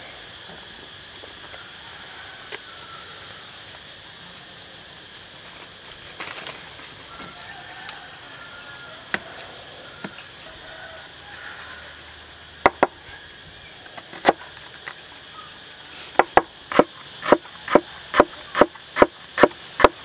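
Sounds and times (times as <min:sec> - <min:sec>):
high insect hum: 0:00.0 - 0:20.0.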